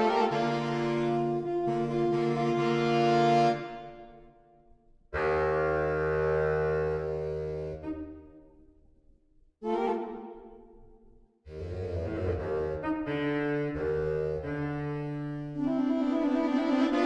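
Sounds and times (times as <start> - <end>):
saxophone quartet chords: 0.0 - 4.4, 5.0 - 8.9, 9.6 - 17.0.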